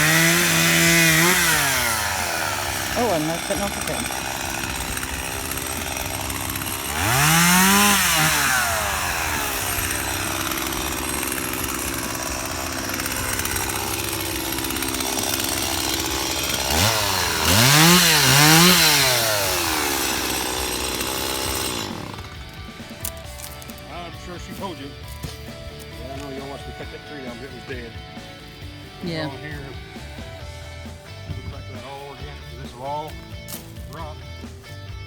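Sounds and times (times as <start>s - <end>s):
chainsaw idling and revving: 0.0s - 35.0s.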